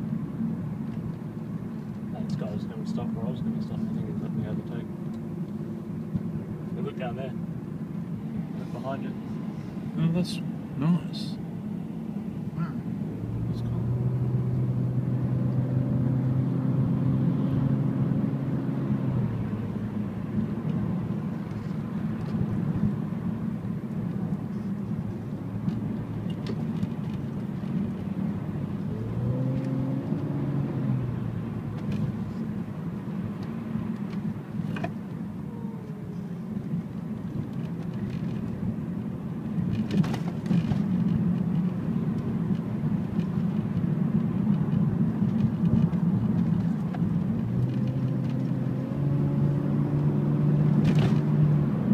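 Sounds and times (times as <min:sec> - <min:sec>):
car engine and tyre noise: 0:00.0 - 0:51.9.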